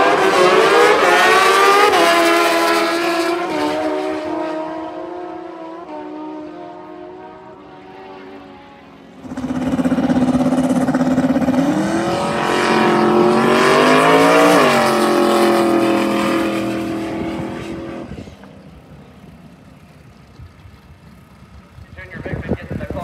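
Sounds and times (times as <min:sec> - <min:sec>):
race car engine at full throttle: 0:00.0 - 0:23.0.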